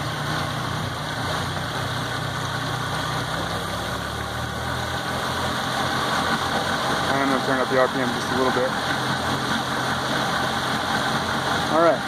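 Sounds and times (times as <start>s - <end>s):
outboard motor idling: 0.0s - 12.0s
propeller churning water: 0.0s - 12.0s.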